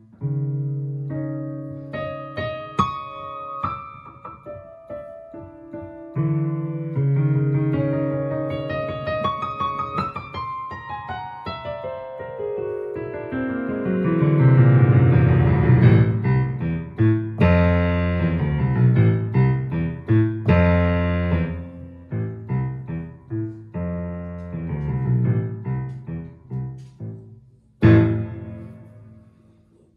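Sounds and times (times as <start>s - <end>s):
piano piece on keyboard: 0.0s - 29.9s.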